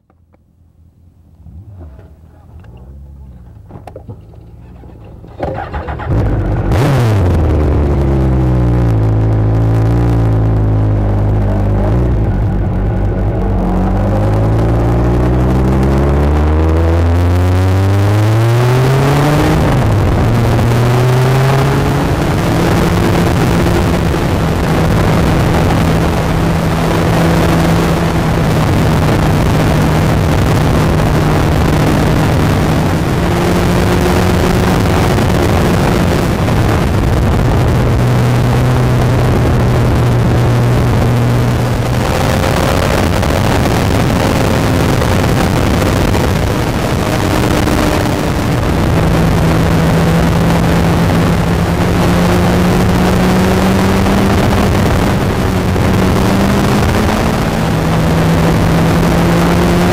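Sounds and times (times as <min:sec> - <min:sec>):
motorcycle engine revving: 0:01.3 - 0:59.9.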